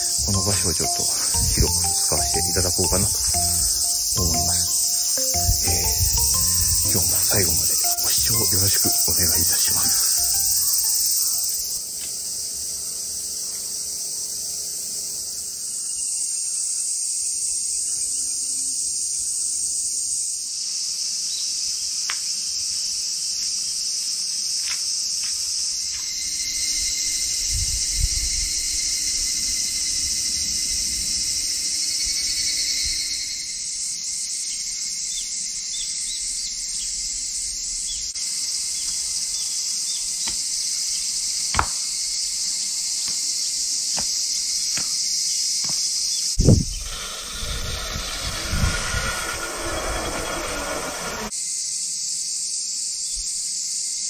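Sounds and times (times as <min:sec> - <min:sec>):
cicadas shrilling: 0:00.0 - 0:54.0.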